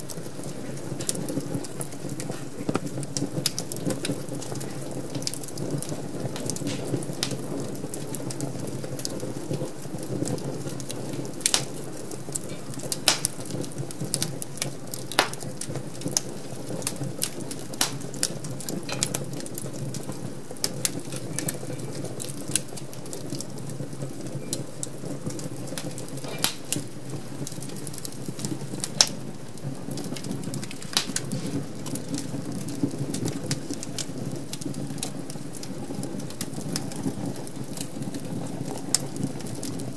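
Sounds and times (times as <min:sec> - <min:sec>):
fire crackling and popping: 0:00.0 - 0:39.9
low rush of flame: 0:00.0 - 0:39.9.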